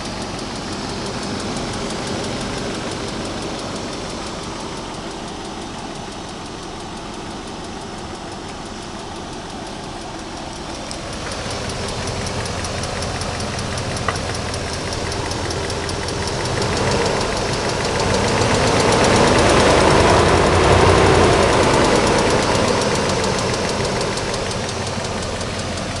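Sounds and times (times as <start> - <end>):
car engine running: 0.0 - 26.0
rapid ticking knock: 0.0 - 26.0.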